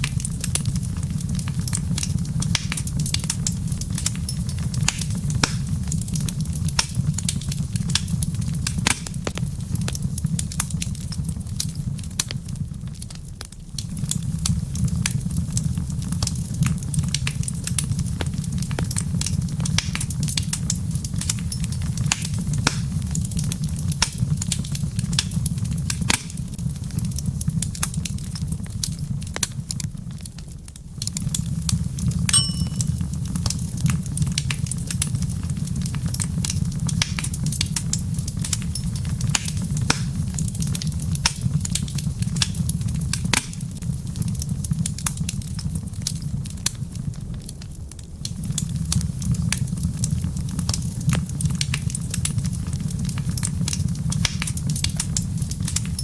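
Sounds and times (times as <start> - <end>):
low rumble of burning: 0.0 - 32.2, 33.2 - 56.0
wood fire crackling: 0.0 - 56.0.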